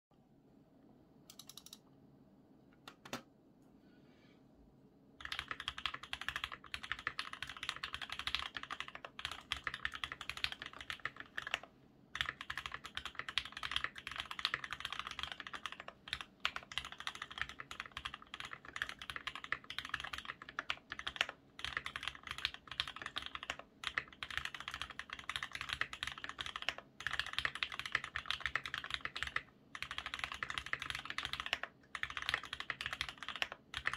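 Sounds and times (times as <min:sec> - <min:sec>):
fast mechanical keyboard typing: 0:01.3 - 0:01.8, 0:05.2 - 0:33.9.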